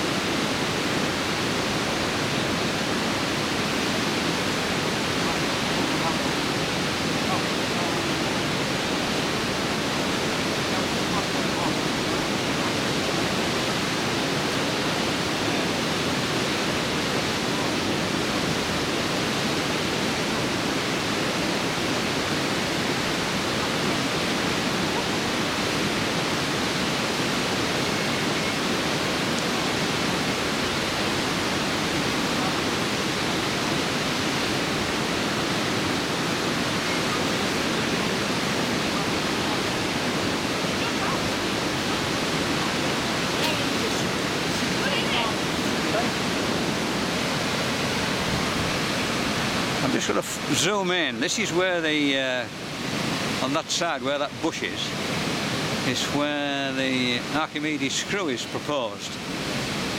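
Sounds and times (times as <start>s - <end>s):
water rushing over weir: 0.0s - 59.9s.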